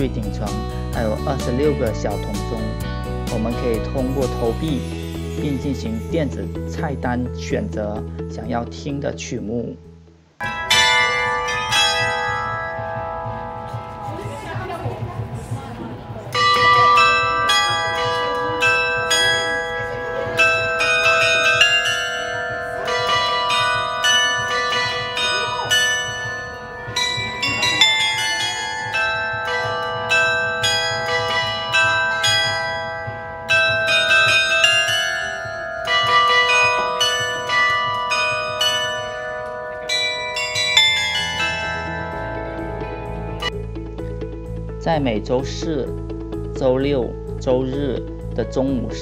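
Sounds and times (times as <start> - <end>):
bell tower chime playing a tune: 0.0 - 7.8, 10.4 - 45.2.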